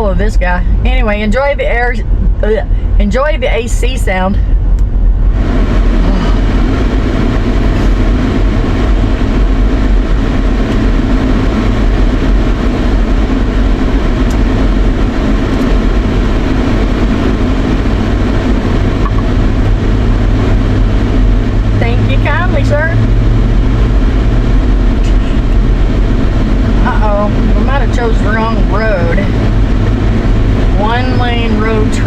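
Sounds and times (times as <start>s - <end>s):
car road and engine rumble: 0.0s - 32.0s
air-conditioning blower rushing: 3.8s - 32.0s.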